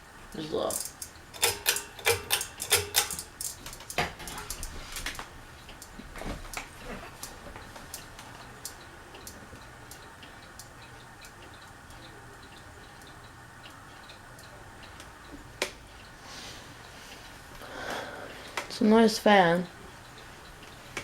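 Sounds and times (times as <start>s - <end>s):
ceiling fan humming: 0.0s - 21.0s
light regular ticks: 0.3s - 21.0s.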